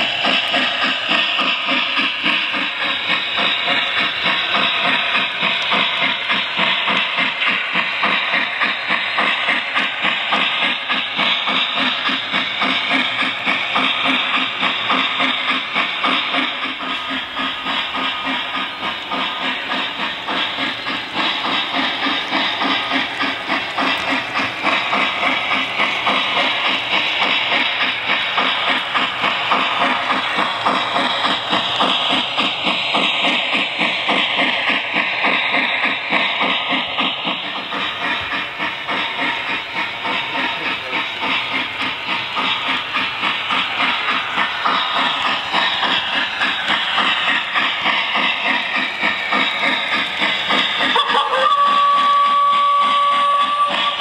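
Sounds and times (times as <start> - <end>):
model train steam chuffing: 0.0 - 54.0.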